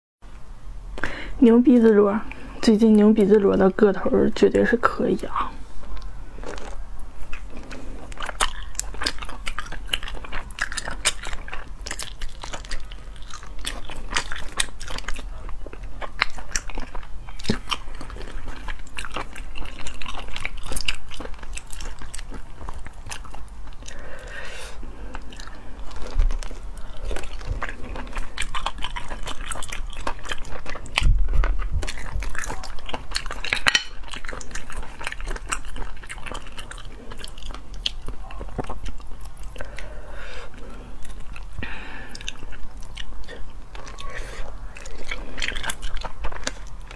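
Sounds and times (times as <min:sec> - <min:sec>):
wet chewing and mouth clicks: 0:05.8 - 0:46.9.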